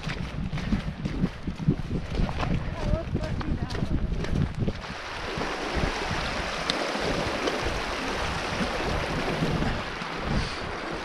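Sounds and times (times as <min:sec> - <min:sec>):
rushing mountain stream: 0:00.0 - 0:11.0
wind gusts buffeting microphone: 0:00.0 - 0:11.0.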